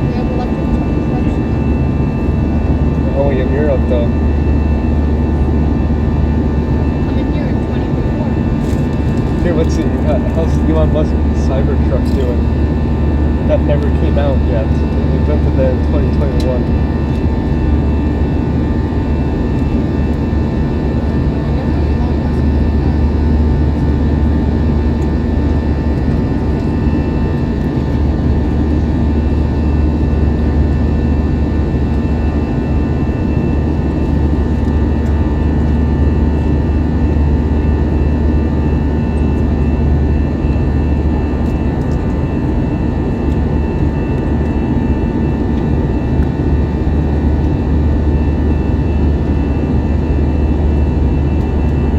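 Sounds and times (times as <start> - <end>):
jet engine drone in cabin: 0.0 - 51.9.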